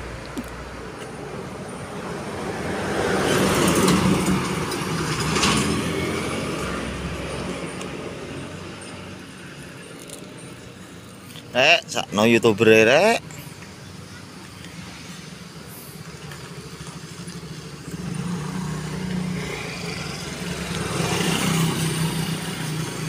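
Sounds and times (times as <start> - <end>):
motor vehicle passing: 0.7 - 11.3, 14.7 - 23.0.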